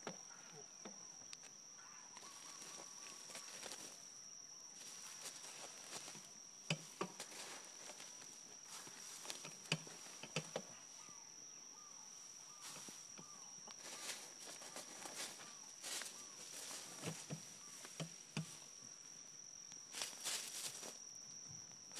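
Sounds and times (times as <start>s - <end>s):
high-pitched insect trill: 0.0s - 21.9s.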